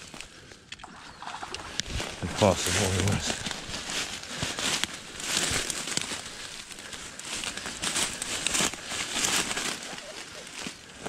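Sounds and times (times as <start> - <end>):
brush rustling and crackling: 0.0 - 11.0
twigs cracking: 0.0 - 11.0.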